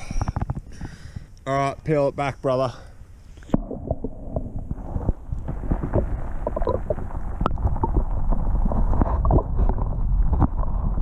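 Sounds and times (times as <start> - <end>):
muffled underwater rumble: 0.0 - 1.3, 3.4 - 11.0.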